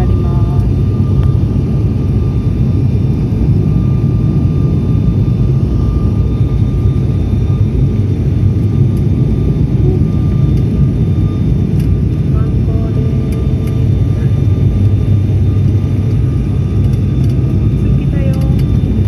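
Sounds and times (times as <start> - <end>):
airliner engine rumble: 0.0 - 19.0
thin steady whine: 0.0 - 19.0.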